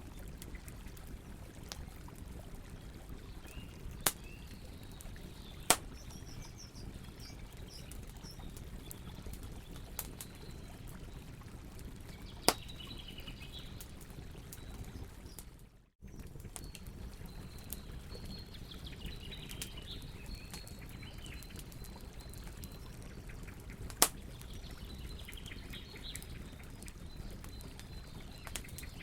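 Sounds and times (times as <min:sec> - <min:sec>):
campfire burning: 0:00.0 - 0:29.0.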